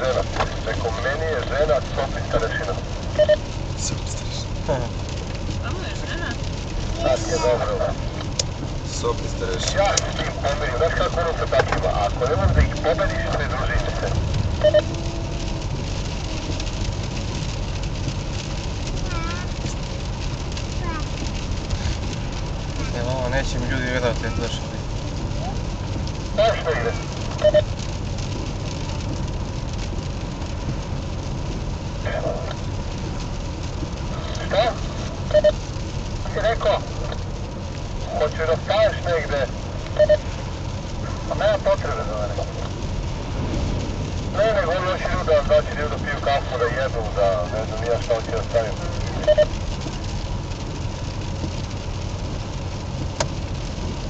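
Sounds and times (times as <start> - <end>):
car engine and road drone: 0.0 - 54.0.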